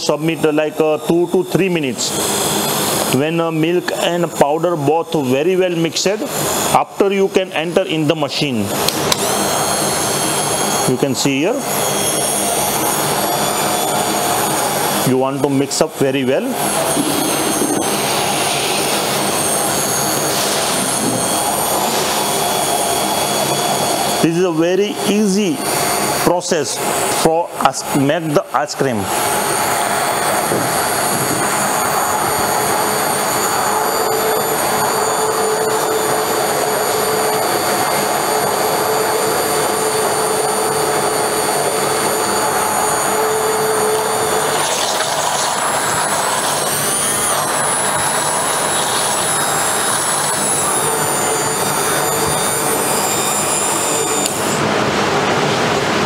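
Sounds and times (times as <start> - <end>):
hand blender motor whine: 0.0 - 7.4, 8.5 - 54.9.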